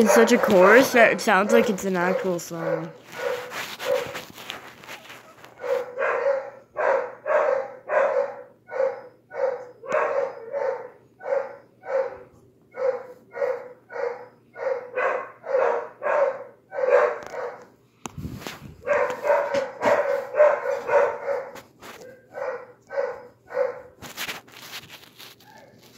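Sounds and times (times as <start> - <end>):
dogs barking: 0.0 - 4.5, 5.1 - 17.8, 18.8 - 24.0.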